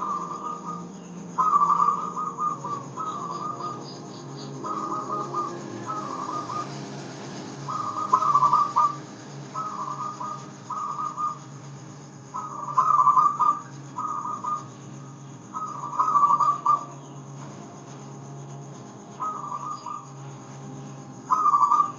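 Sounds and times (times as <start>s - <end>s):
dove cooing: 0.0s - 11.6s, 12.3s - 17.8s, 19.2s - 20.2s, 21.2s - 21.9s.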